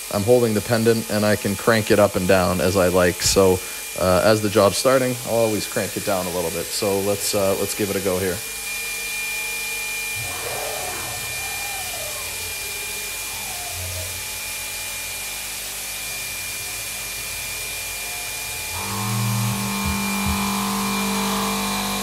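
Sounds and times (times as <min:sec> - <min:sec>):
milling machine spindle running: 0:00.0 - 0:22.0
faint motor sounds gliding in pitch: 0:00.1 - 0:22.0
louder steady hum: 0:03.6 - 0:22.0.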